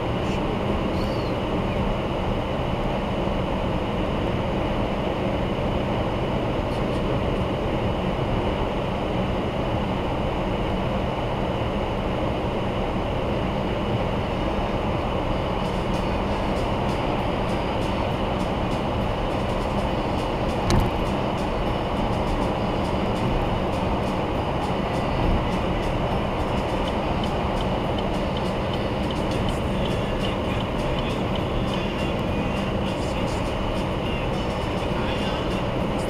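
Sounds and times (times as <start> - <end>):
tyre road and wind noise in car: 0.0 - 36.0.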